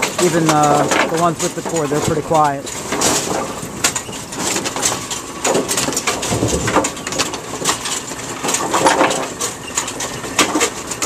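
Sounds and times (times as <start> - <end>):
bowling pins clattering: 0.0 - 11.0
pinsetter machine running: 0.0 - 11.0.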